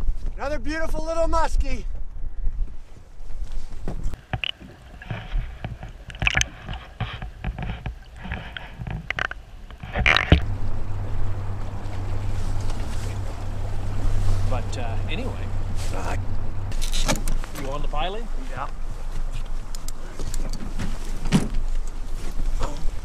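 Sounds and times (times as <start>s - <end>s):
handling knocks and rustles: 3.3s - 23.0s
low boat motor hum: 4.2s - 23.0s.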